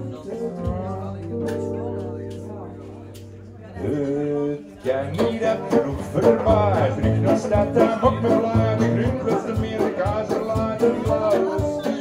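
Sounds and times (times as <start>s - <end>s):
acoustic guitars playing: 0.0s - 12.0s.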